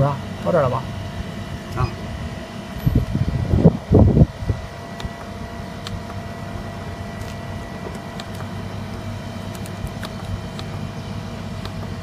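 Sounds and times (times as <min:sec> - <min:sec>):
cooling unit humming: 0:00.0 - 0:12.0.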